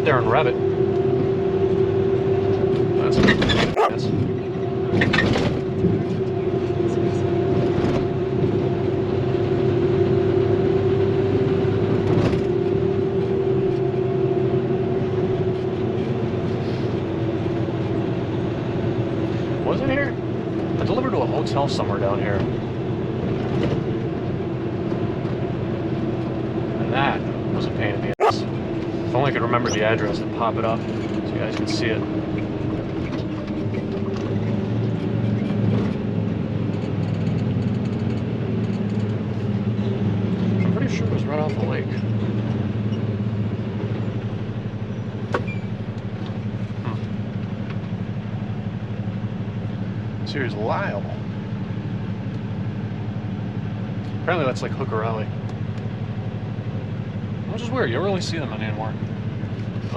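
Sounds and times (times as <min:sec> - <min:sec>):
truck engine and road drone: 0:00.0 - 0:29.3, 0:30.0 - 0:59.9.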